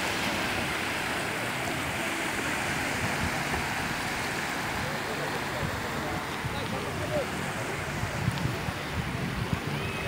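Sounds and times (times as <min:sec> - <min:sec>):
small waves breaking in shallows: 0:00.0 - 0:10.0.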